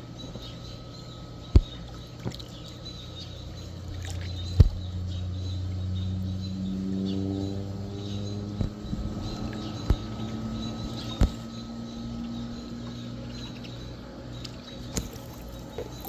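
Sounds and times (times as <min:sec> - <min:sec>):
propeller airplane engine drone: 0:00.0 - 0:16.0.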